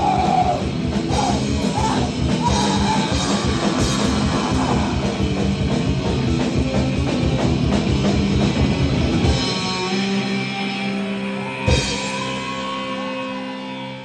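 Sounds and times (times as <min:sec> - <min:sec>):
drum kit: 0:00.0 - 0:13.9
live rock band playing: 0:00.0 - 0:14.0.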